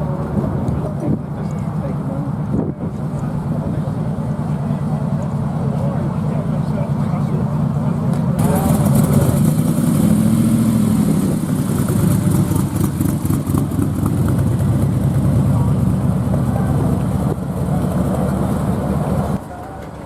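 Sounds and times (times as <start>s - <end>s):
car engine rough idle: 2.9s - 19.4s.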